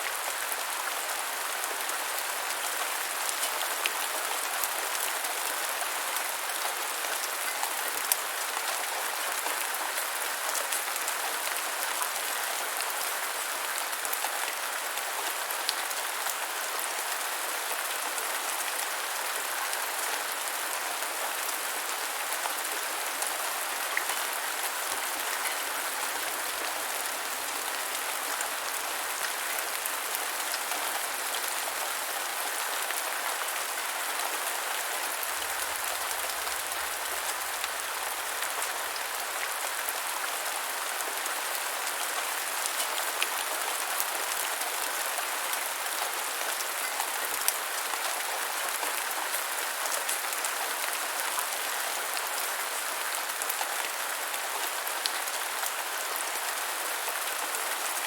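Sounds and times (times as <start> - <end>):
rain falling on hard surfaces: 0.0 - 58.0.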